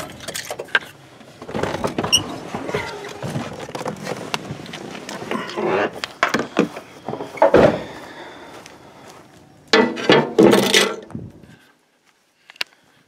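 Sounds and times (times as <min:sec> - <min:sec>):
rustling and scraping: 0:00.0 - 0:12.7.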